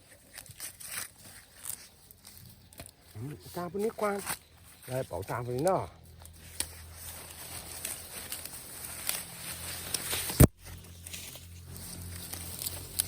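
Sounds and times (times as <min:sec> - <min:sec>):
rustling and light clicks: 0:00.0 - 0:13.0.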